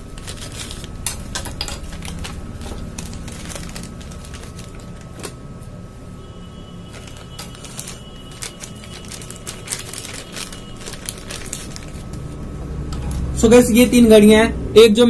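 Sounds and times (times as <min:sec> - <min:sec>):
plastic packaging crinkling: 0:00.0 - 0:13.6
faint steady hum: 0:00.0 - 0:15.0.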